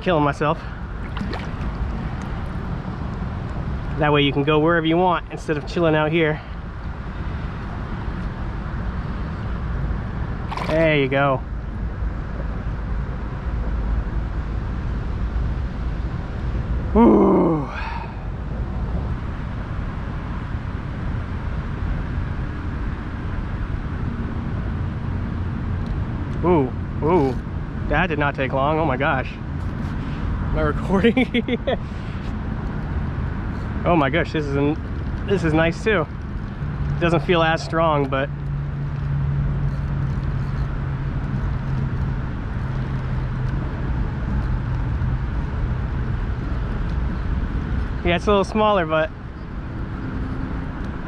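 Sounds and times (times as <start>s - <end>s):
highway traffic rumble: 0.0s - 51.0s.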